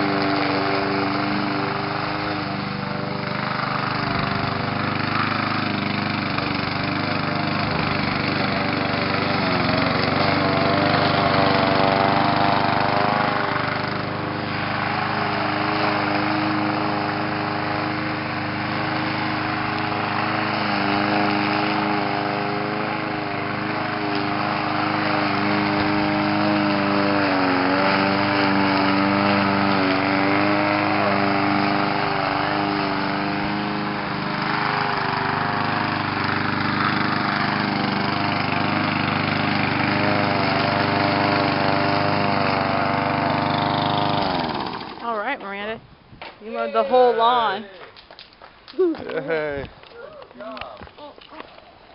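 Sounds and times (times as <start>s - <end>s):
lawn mower engine running: 0.0s - 47.6s.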